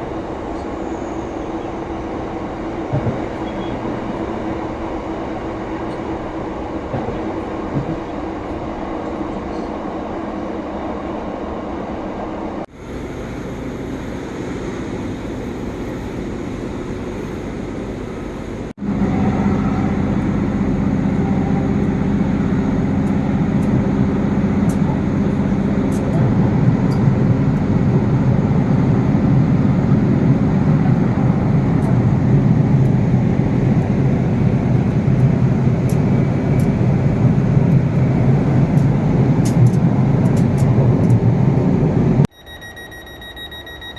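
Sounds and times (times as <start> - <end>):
diesel train engine drone: 0.0 - 43.9.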